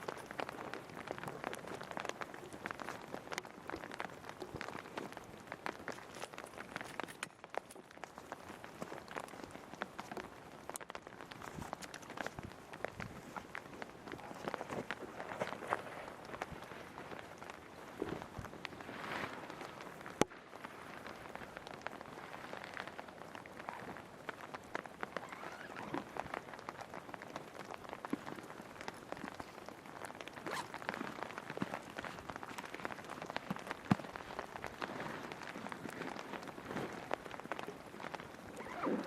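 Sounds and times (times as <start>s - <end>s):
rain drops tapping: 0.0s - 39.0s.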